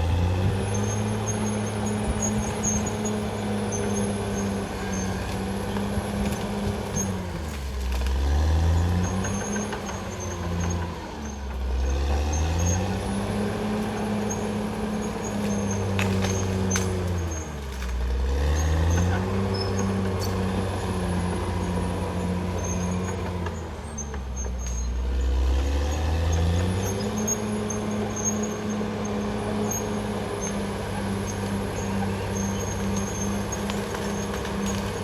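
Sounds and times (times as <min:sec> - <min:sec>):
bulldozer diesel engine under load: 0:00.0 - 0:35.0.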